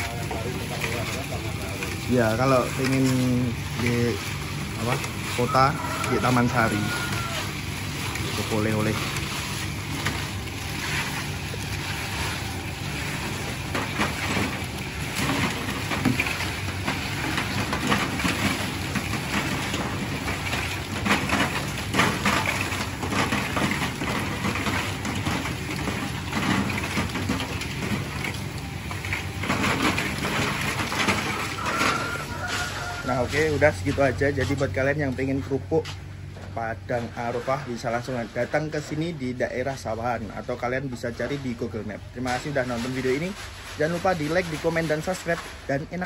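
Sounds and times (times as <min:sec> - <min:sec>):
crackers rattling in hot sand: 0:00.0 - 0:35.2, 0:37.0 - 0:46.0.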